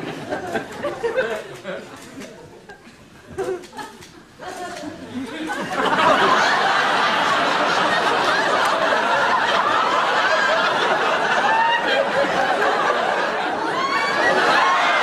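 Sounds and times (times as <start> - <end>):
audience laughing: 0.0 - 15.0.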